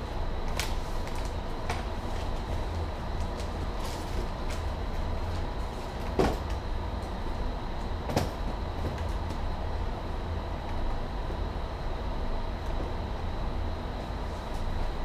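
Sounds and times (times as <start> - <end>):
faint steady whine: 0.0 - 15.0
office ventilation rumble: 0.0 - 15.0.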